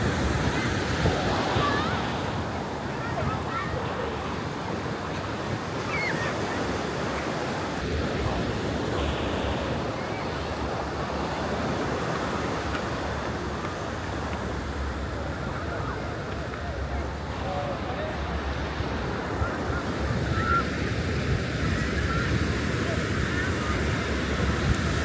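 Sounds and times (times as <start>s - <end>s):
ocean surf washing onto beach: 0.0s - 25.0s.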